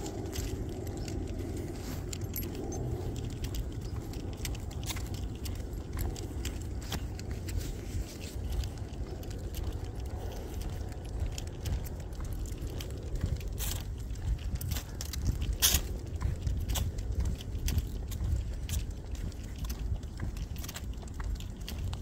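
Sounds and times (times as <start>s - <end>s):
leash hardware clinking: 0.0s - 22.0s
steady low rumble: 0.0s - 22.0s.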